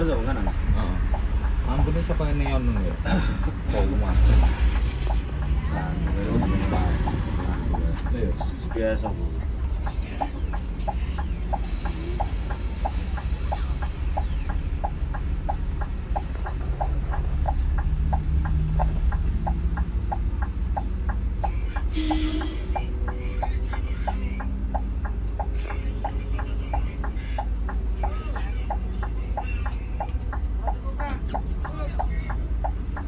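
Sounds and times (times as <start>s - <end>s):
engine and road rumble: 0.0s - 33.0s
sharp ticking: 0.0s - 33.0s.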